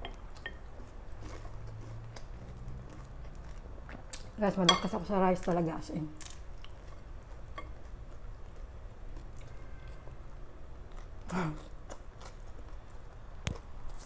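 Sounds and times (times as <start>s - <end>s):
person chewing rice: 0.0s - 4.4s, 6.2s - 14.0s
low steady background hum: 0.0s - 14.0s.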